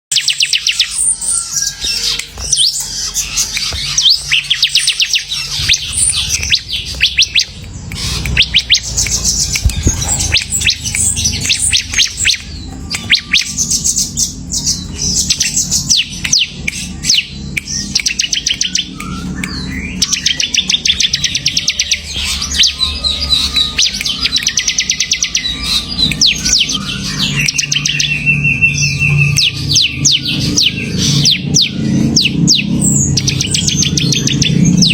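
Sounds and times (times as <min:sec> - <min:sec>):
bird singing fast trills: 0:00.1 - 0:34.9.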